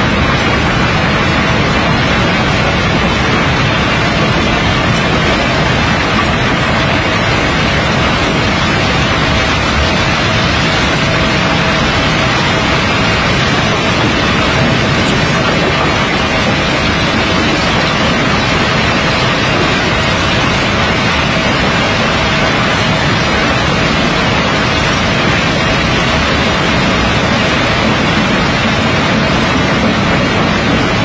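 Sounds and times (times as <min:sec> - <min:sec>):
conveyor rushing noise: 0:00.0 - 0:31.0.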